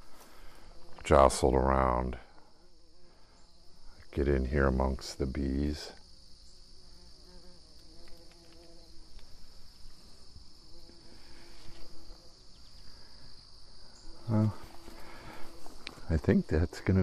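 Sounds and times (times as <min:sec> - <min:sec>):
bees buzzing: 0:00.0 - 0:17.0
high-pitched insect drone: 0:00.1 - 0:17.0.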